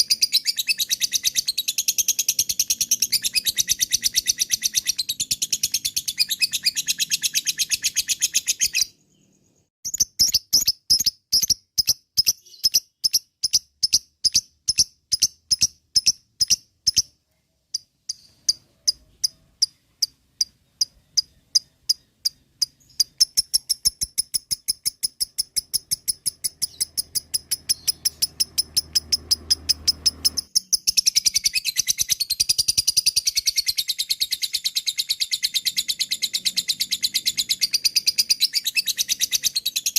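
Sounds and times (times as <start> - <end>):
lovebird shrill chattering chirps: 0.0 - 39.9.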